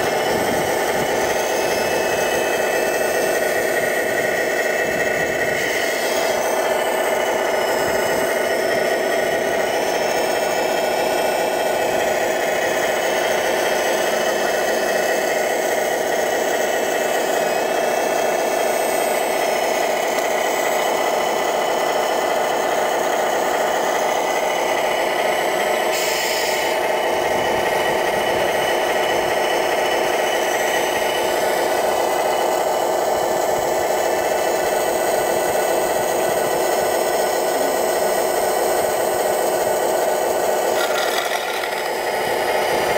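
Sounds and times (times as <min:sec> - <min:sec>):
model wheel loader running: 0:00.0 - 0:42.9.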